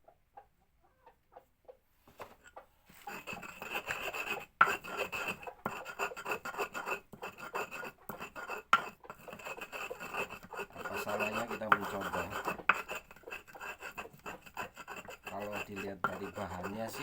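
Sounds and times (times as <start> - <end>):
mortar and pestle grinding: 3.0 - 17.0.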